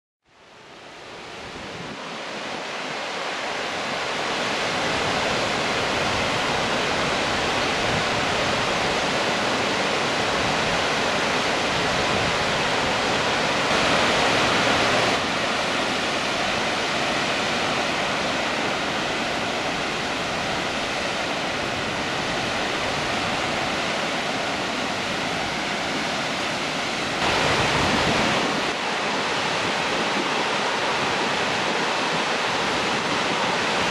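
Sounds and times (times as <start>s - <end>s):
waterfall rushing over rocks: 0.3s - 33.9s.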